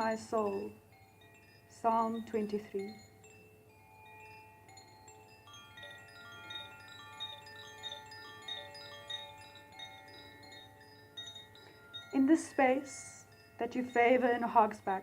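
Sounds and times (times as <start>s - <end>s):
chimes ringing softly: 0.0s - 15.0s.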